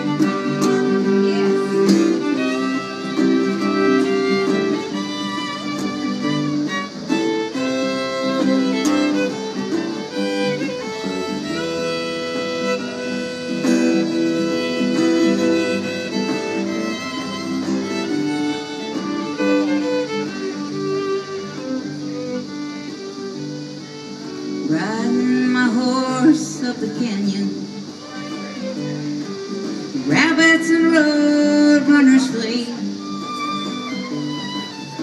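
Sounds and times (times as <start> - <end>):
acoustic guitar: 0.0 - 35.0
fiddle melody: 0.0 - 35.0.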